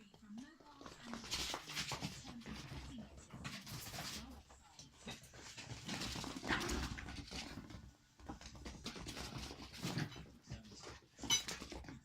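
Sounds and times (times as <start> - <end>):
puppies scuffling: 0.0 - 12.0.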